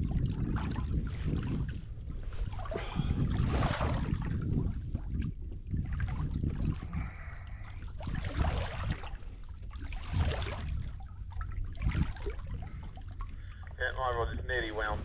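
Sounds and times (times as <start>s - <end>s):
steady low rumble: 0.0s - 15.0s
water slapping against hull: 0.0s - 15.0s.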